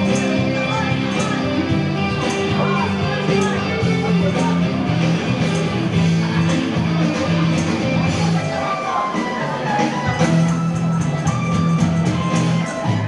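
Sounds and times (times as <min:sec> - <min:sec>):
guitar music with faint beat: 0:00.0 - 0:13.0.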